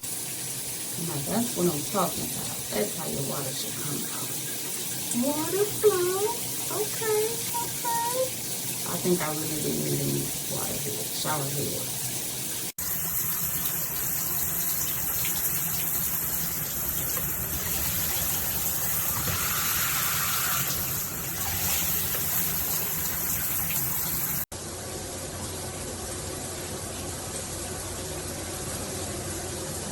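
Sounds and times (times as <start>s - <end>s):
shower head spraying water: 0.0s - 24.5s.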